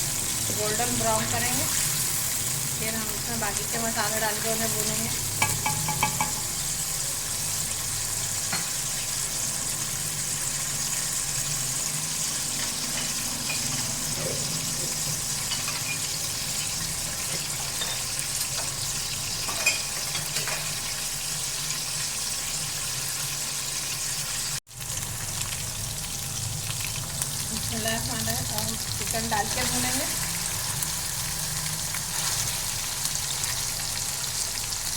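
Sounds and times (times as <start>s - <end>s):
onions sizzling in hot oil: 0.0s - 34.9s.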